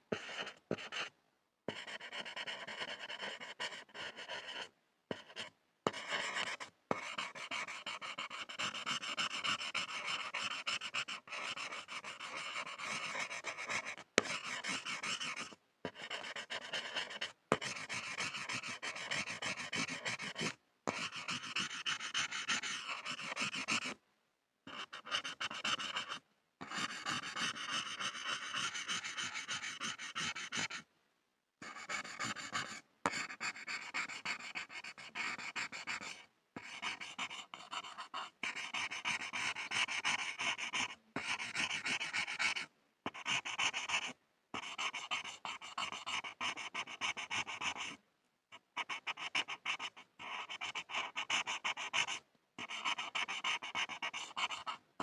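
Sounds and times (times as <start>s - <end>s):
pencil scribbling on a board: 0.0s - 1.1s, 1.7s - 24.0s, 24.7s - 30.9s, 31.6s - 54.9s.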